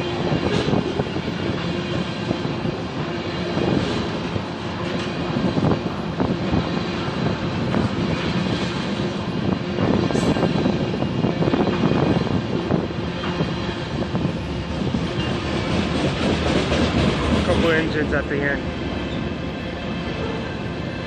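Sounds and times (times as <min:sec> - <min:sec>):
freight train wheels rumbling: 0:00.0 - 0:21.0
train cars clanking: 0:00.0 - 0:21.0.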